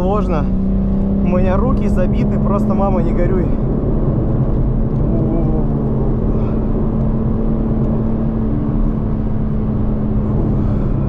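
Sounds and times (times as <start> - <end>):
car engine running at speed: 0.0 - 11.0.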